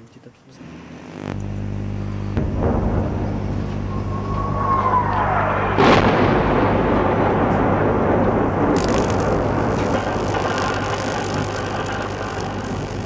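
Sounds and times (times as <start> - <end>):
plasma arc hissing crackle: 0.6 - 13.0
transformer humming: 0.6 - 13.0.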